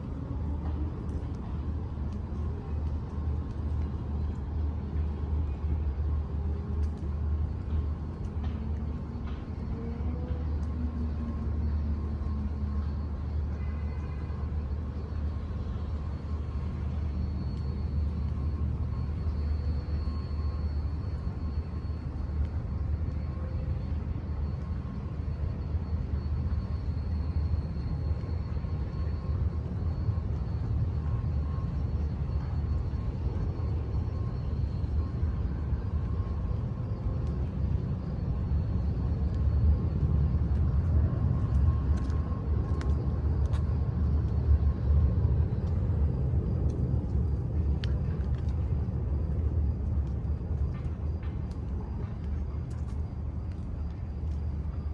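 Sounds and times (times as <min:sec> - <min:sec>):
faint steady hums: 0:00.0 - 0:54.9
low city rumble: 0:00.0 - 0:54.9.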